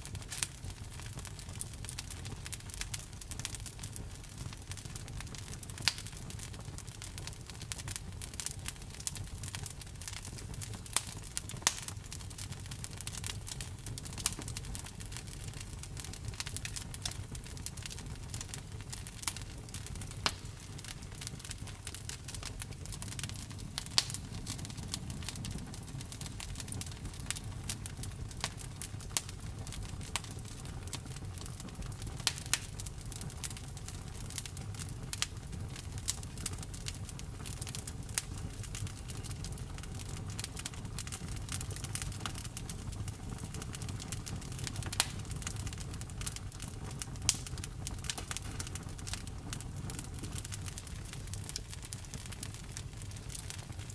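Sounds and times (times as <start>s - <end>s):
low fire rumble: 0.0s - 53.9s
wood fire crackling and popping: 0.0s - 53.9s.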